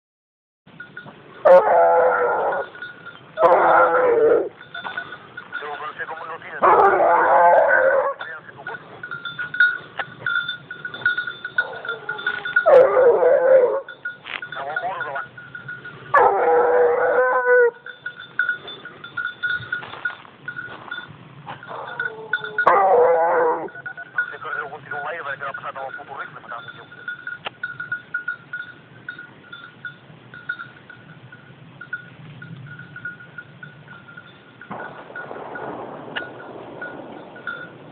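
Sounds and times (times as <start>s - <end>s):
dog collar bell ringing: 0.7s - 6.9s, 8.2s - 37.9s.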